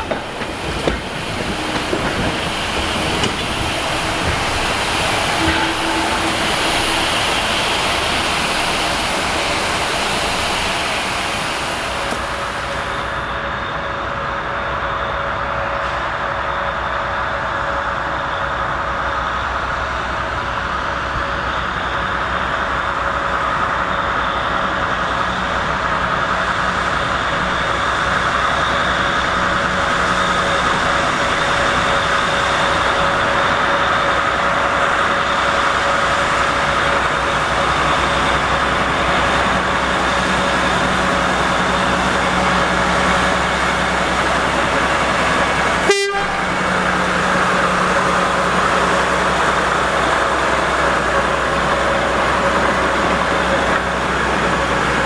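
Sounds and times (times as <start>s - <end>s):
locomotive hiss and hum: 0.0s - 55.0s.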